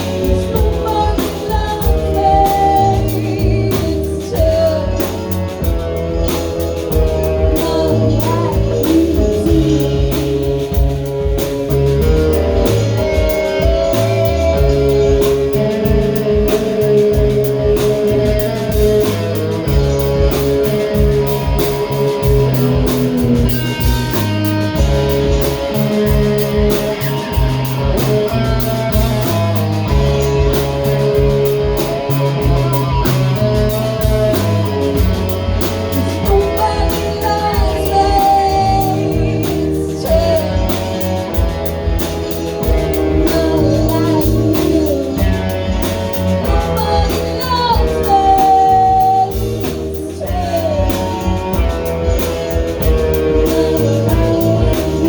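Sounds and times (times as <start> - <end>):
bass line: 0.0 - 55.0
drums: 0.0 - 55.0
guitar: 0.0 - 55.0
person singing: 0.0 - 55.0.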